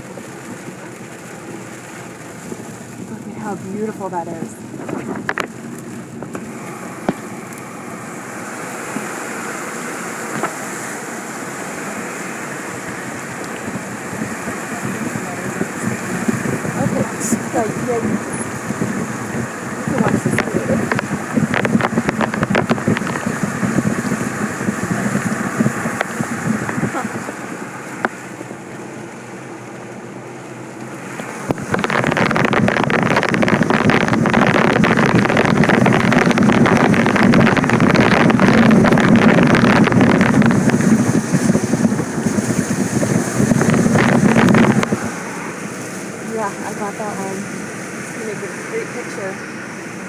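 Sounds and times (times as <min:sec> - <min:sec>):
vehicle road noise: 0:00.0 - 0:50.0
wind buffeting microphone: 0:01.6 - 0:29.9, 0:30.8 - 0:50.0.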